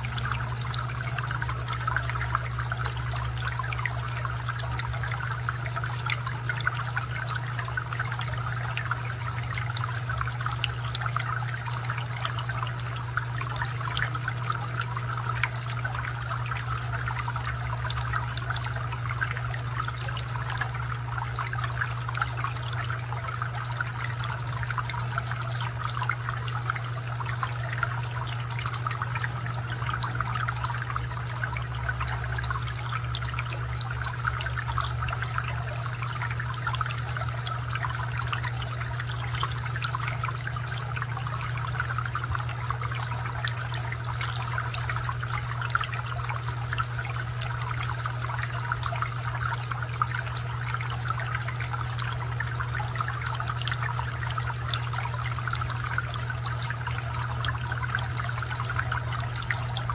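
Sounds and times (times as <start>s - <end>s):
constant low hum: 0.0s - 59.9s
fountain water trickling: 0.0s - 59.9s.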